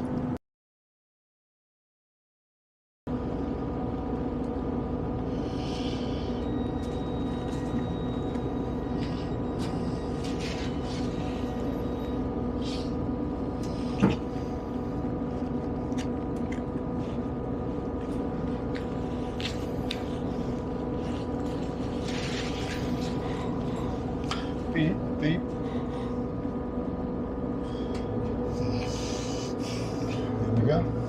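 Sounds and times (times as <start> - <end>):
train engine hum: 3.1 - 31.0.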